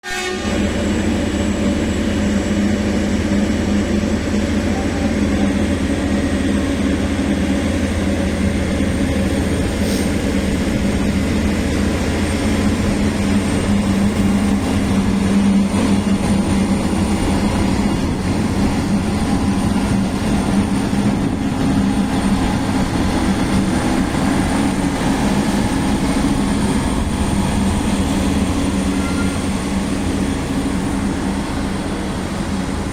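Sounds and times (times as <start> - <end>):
train rumbling: 0.0 - 32.9.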